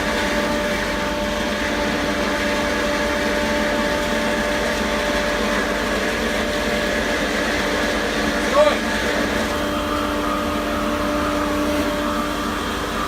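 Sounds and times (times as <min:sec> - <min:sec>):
vacuum blower machine humming: 0:00.0 - 0:13.0.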